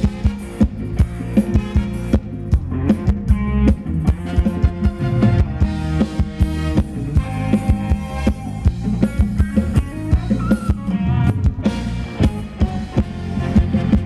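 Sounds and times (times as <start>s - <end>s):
drum kit beat: 0.0s - 14.0s
electric guitar: 0.0s - 14.0s
live band dance music: 0.0s - 14.0s.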